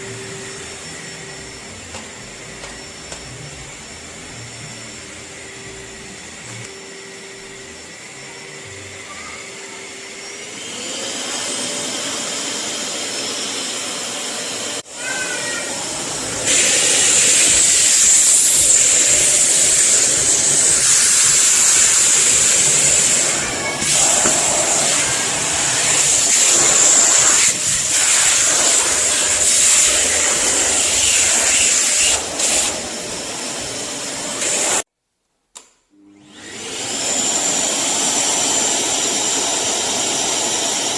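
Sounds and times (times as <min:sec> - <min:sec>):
vacuum cleaner running: 0:00.0 - 0:34.9, 0:36.0 - 0:40.9.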